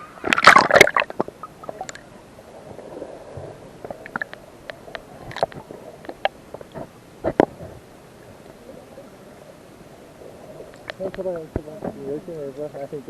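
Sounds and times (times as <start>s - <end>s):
muffled water sloshing: 0.0s - 12.8s.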